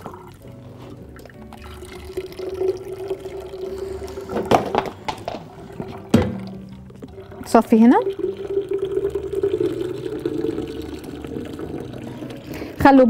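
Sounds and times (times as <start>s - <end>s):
juice pouring through strainer: 0.0s - 12.8s.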